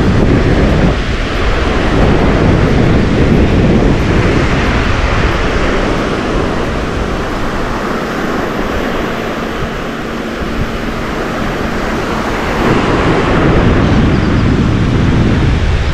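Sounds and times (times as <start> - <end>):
surf waves breaking on beach: 0.0 - 15.9
wind buffeting microphone: 0.0 - 15.9.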